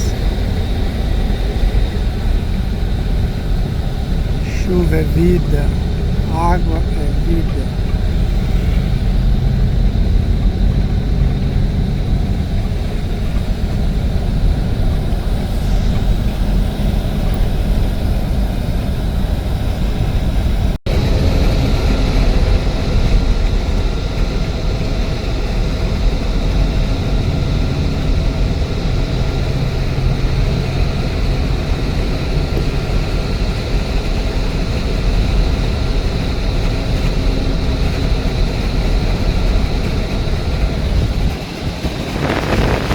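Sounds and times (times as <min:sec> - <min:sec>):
moving vehicle rumble: 0:00.0 - 0:42.9.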